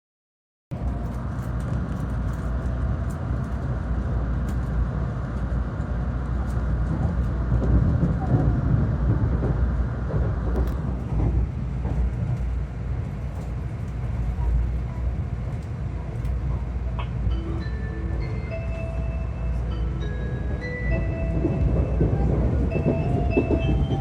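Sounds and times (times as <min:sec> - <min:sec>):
train wheels rumbling: 0:00.8 - 0:24.0.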